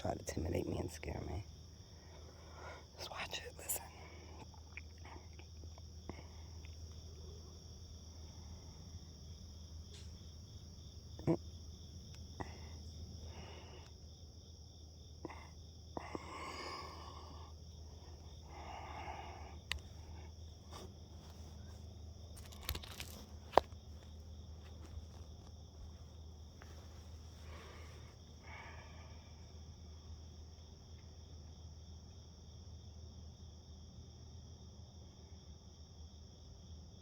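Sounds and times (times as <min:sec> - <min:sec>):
low steady hum: 0:00.0 - 0:32.1
crickets and insects chirping: 0:00.0 - 0:37.0.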